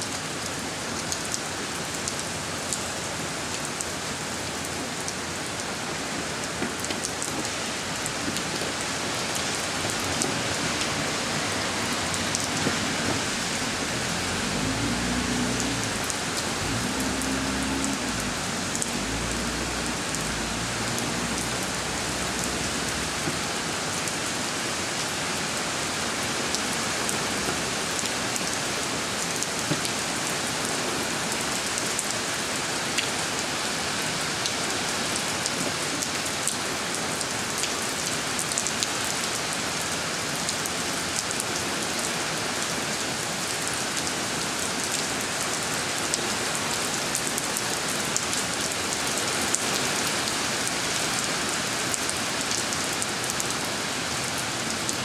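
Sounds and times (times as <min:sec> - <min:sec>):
rain on concrete and puddles: 0:00.0 - 0:55.0.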